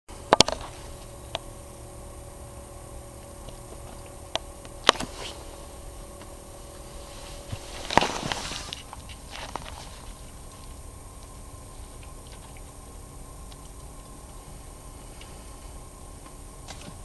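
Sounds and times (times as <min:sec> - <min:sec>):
electrical hum: 0:00.1 - 0:17.0.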